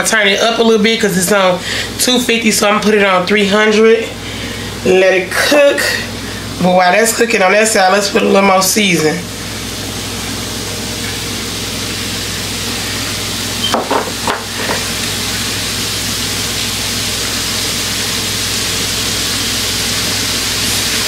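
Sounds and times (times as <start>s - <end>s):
burger patties sizzling on griddle: 3.6s - 21.0s.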